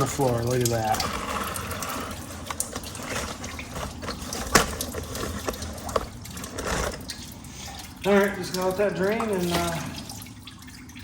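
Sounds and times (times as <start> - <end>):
coolant pouring into container: 0.0 - 11.0.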